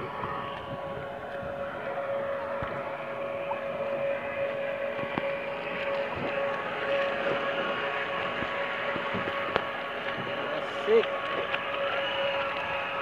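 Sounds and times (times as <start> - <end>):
churning water: 0.0 - 13.0
model boat motor whining: 0.0 - 13.0
wind: 0.0 - 13.0.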